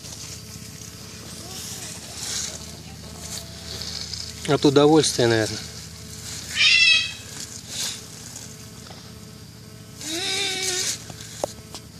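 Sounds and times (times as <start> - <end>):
tortoise mating cries: 0.0 - 11.6.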